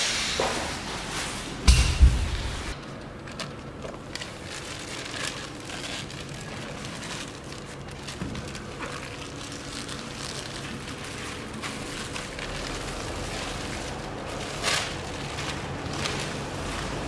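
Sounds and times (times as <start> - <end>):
plastic film crackling and rustling: 1.7 - 17.0.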